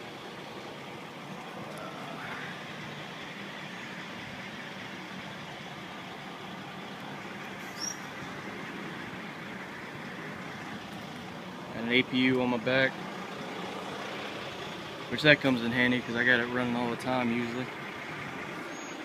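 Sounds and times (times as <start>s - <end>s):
diesel engine idling hum: 0.0s - 19.0s.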